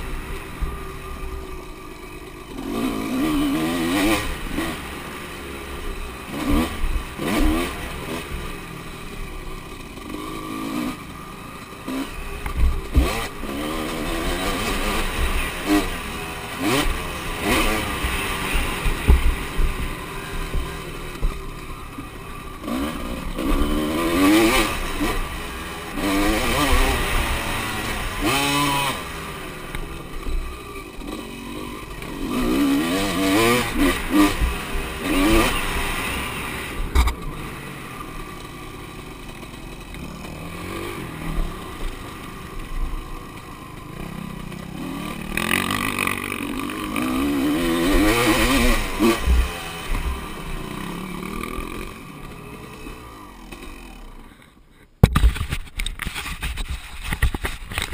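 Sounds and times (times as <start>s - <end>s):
motocross bike engines revving: 0.0s - 57.9s.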